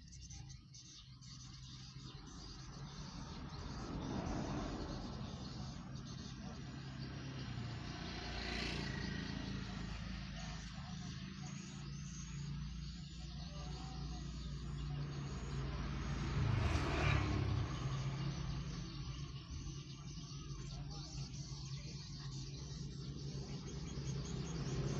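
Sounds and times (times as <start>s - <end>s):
car engine hum: 1.4s - 24.9s
motorbike passing: 1.7s - 24.9s.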